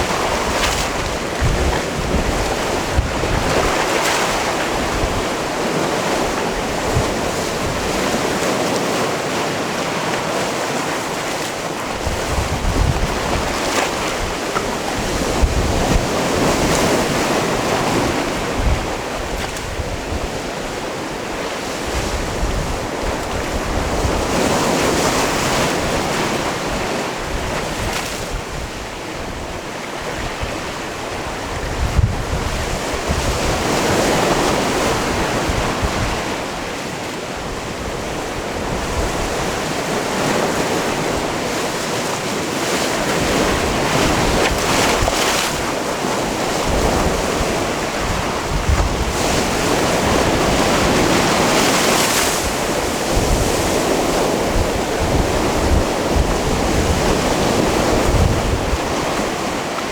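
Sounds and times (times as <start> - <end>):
wind buffeting microphone: 0.0 - 8.8, 11.0 - 41.7, 42.9 - 59.9
sea surf on rocky shore: 0.0 - 59.9.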